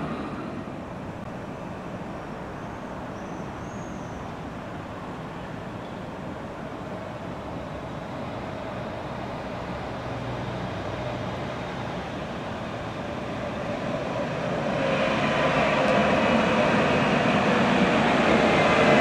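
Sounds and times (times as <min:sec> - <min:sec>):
tram drive whine: 0:00.0 - 0:19.0
tram running noise: 0:00.0 - 0:19.0.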